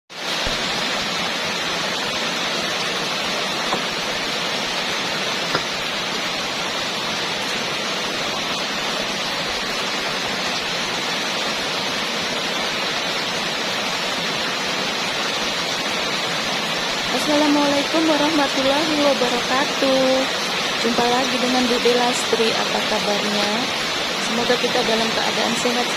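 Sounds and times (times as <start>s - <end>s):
heavy rain pouring: 0.1s - 25.9s.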